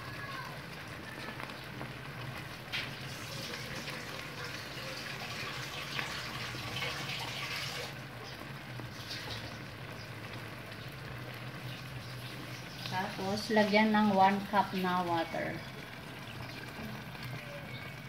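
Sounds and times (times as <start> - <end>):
sauce sizzling and bubbling in pan: 0.0 - 18.0.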